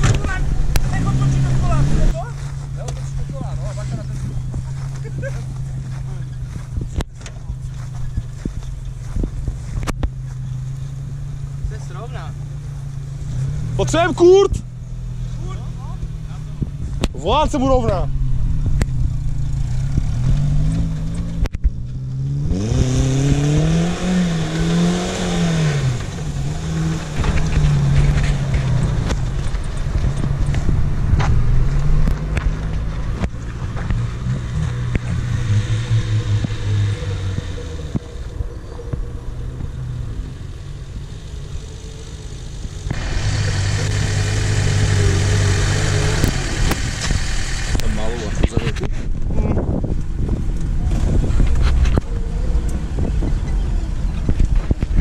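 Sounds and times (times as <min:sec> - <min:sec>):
suv engines revving: 0:00.0 - 0:55.0.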